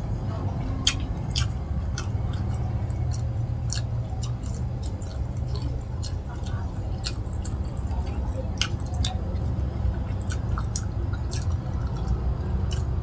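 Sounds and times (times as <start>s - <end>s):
low hum: 0.0s - 13.0s
wet chewing: 0.0s - 13.0s
wet smacking clicks: 0.8s - 13.0s.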